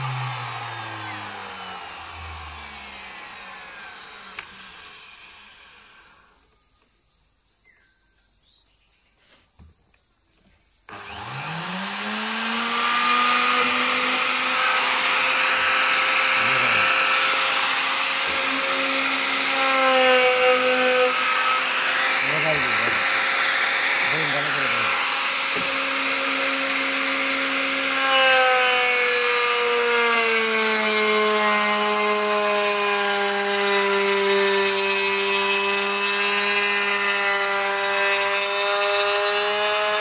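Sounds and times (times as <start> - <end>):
power tool motor whining: 0.0 - 6.6, 10.9 - 40.0.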